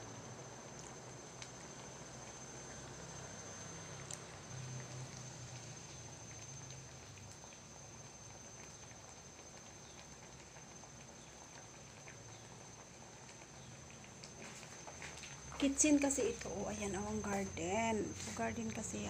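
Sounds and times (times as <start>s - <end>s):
steady hiss: 0.0s - 19.0s
curry bubbling and popping: 0.1s - 19.0s.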